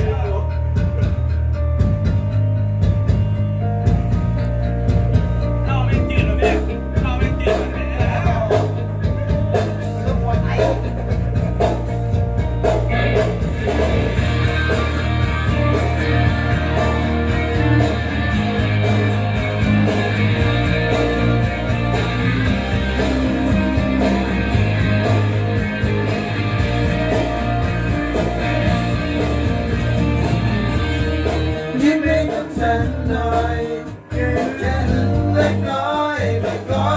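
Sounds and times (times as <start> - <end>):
song with singing and guitar: 4.0 - 36.9.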